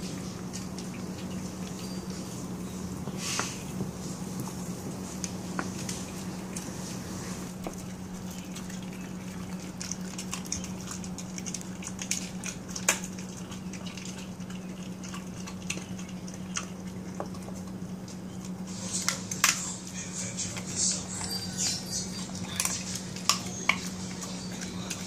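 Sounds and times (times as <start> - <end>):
dog chewing raw meat: 0.0 - 25.0
steady low hum: 0.0 - 25.0.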